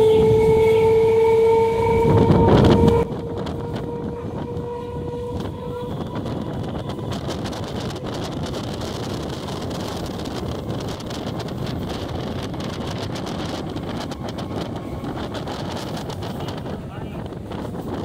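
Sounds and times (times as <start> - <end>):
rushing wind: 0.0 - 18.0
train wheels rumbling on rail: 0.0 - 18.0.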